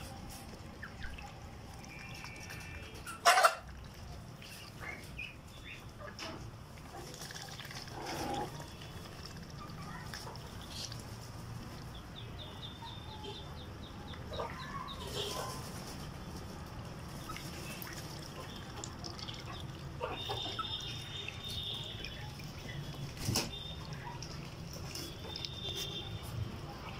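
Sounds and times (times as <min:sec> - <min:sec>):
chickens clucking: 0:00.0 - 0:26.0
high chick peeps: 0:00.0 - 0:26.9.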